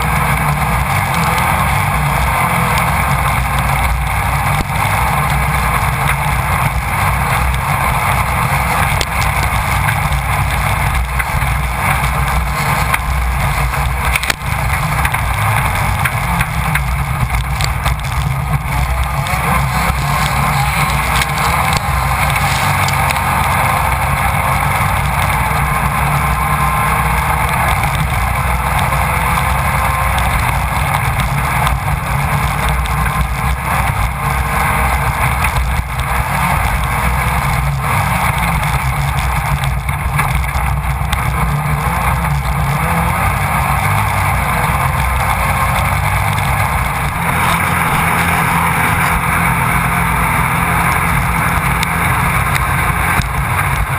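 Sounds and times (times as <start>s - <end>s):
race car engine running hard: 0.0s - 53.9s
wind noise on microphone: 0.0s - 53.9s.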